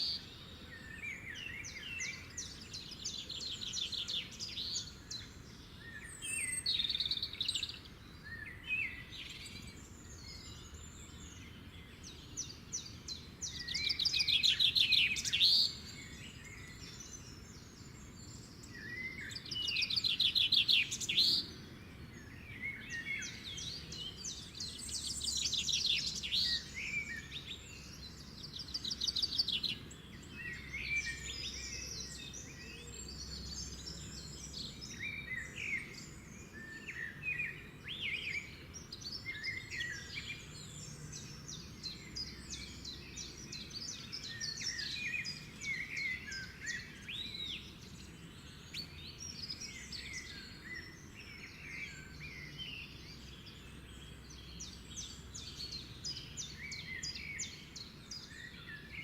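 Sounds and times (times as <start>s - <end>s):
chorus of birds singing: 0.0s - 59.0s
low background noise: 0.0s - 59.0s.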